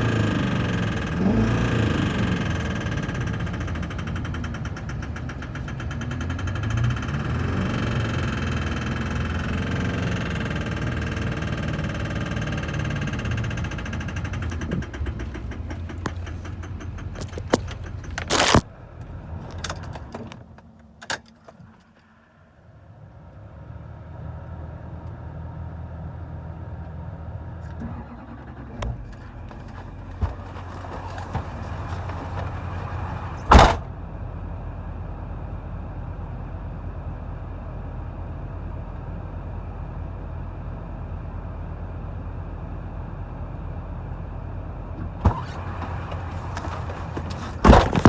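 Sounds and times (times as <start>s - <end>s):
diesel engine running: 0.0s - 20.4s, 27.4s - 48.0s.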